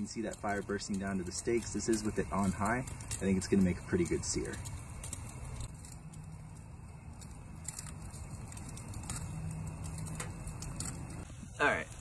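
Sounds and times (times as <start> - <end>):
fat spitting and crackling: 0.0 - 12.0
low burner rumble: 0.0 - 12.0
steaks sizzling on grill: 0.0 - 12.0.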